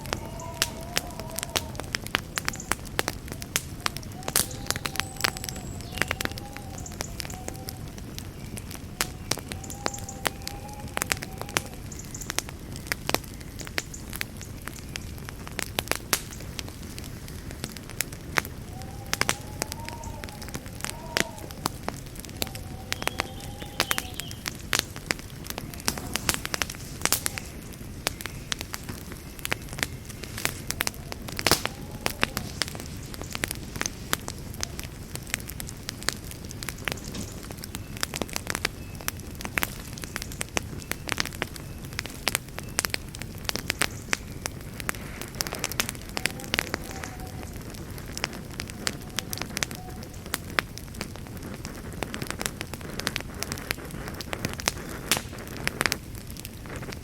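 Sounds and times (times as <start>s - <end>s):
campfire crackling and popping: 0.0s - 57.0s
low rumble of burning: 0.0s - 57.0s.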